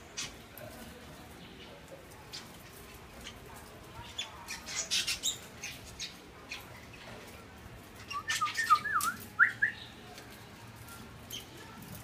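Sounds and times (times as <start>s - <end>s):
small birds calling: 0.0s - 12.0s.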